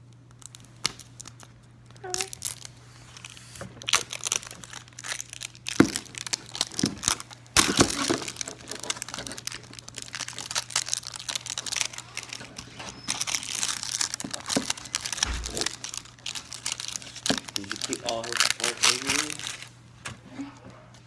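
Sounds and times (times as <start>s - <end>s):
foil wrapper crinkling and tearing: 0.3s - 20.1s.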